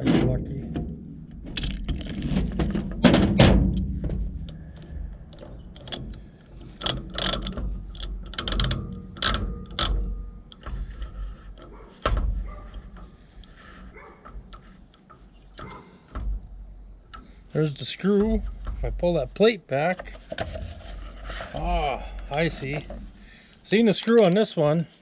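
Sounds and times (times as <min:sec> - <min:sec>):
metallic clicks and clanks of tools: 0:00.0 - 0:19.0, 0:22.2 - 0:24.7.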